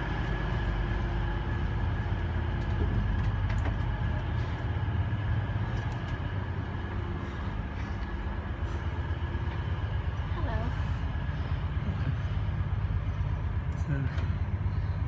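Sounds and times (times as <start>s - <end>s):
train carriage rumble and hum: 0.0s - 15.0s.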